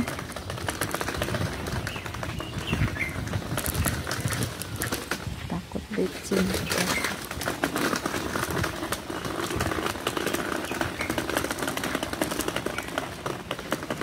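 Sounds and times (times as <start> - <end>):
trolley wheels rattling on paving: 0.0 - 14.0.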